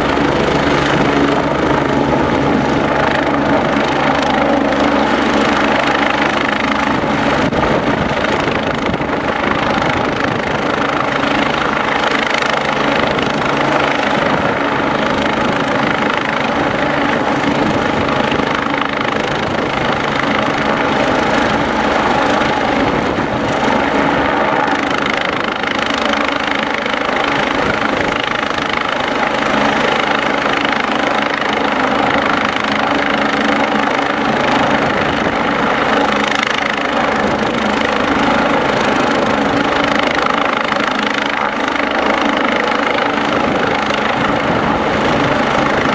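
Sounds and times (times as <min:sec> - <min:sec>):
helicopter drone: 0:00.0 - 0:45.9.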